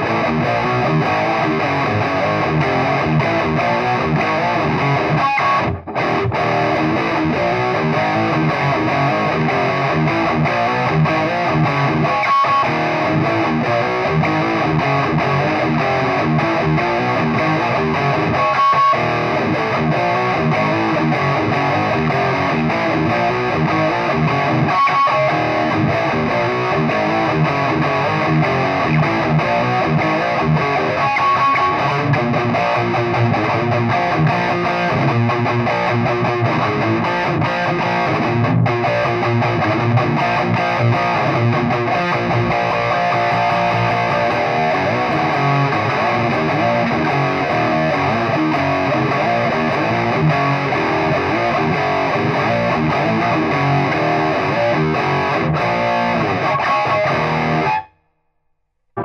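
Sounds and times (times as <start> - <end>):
distorted electric guitar riffing: 0.0 - 58.0.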